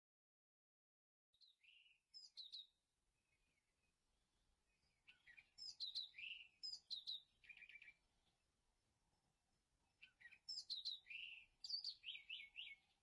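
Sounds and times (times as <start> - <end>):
faint bird chirping: 1.4 - 13.0.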